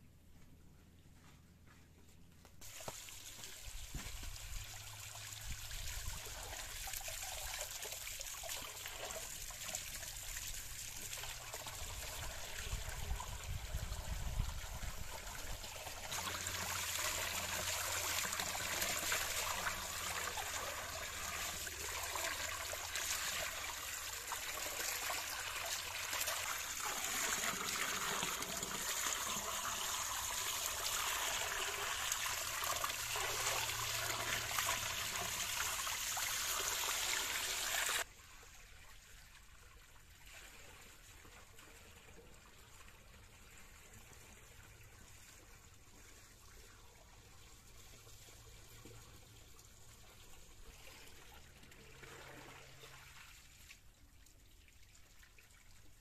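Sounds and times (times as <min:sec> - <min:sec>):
water pouring and splashing: 0:02.6 - 0:56.0.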